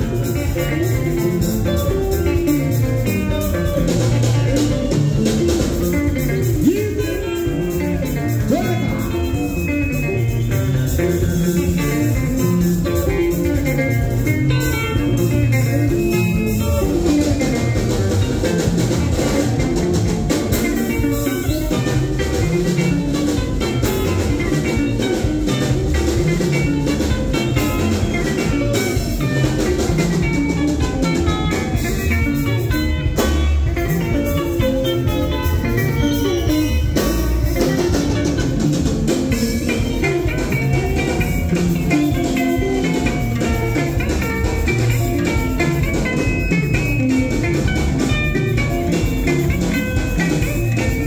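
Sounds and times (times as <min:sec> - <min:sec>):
bass guitar: 0:00.0 - 0:51.0
drum kit beat: 0:00.0 - 0:51.0
interlocking electric guitars: 0:00.0 - 0:51.0.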